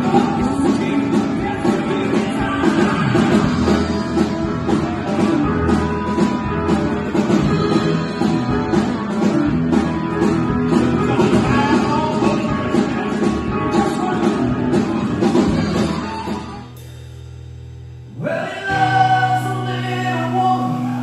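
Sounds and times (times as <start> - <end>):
electric guitars: 0.0 - 16.8, 18.0 - 21.0
drum kit: 0.0 - 21.0.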